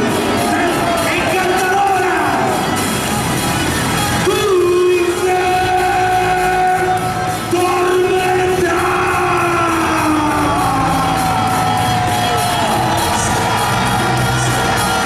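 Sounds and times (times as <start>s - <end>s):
steady music backing: 0.0s - 15.0s.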